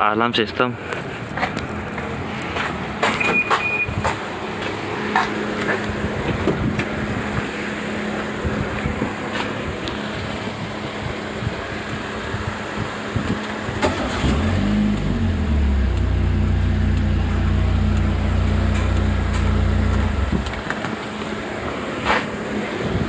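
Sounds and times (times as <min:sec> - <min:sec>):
car engine starting and idling: 0:01.3 - 0:22.8.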